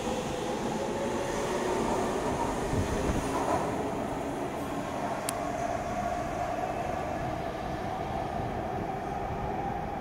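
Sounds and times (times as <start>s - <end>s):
wheels rumbling on rail: 0.0s - 10.0s.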